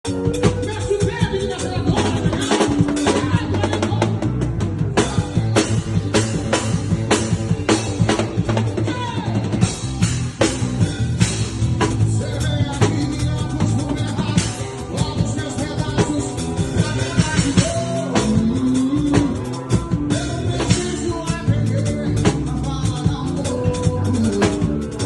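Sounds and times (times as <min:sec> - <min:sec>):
drum-kit beat: 0:00.0 - 0:25.0
steady bass line: 0:00.0 - 0:25.0.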